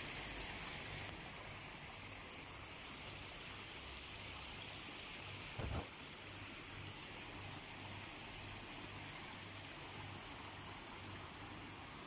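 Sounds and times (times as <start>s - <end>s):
water flowing into pond: 0.0s - 12.0s.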